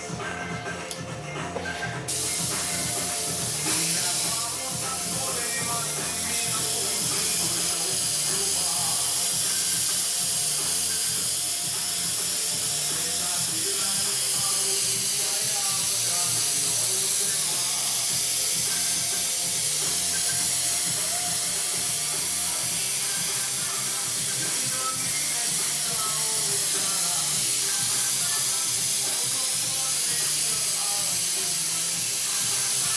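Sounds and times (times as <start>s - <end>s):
faint music: 0.0s - 32.9s
airbrush hissing: 2.1s - 32.9s.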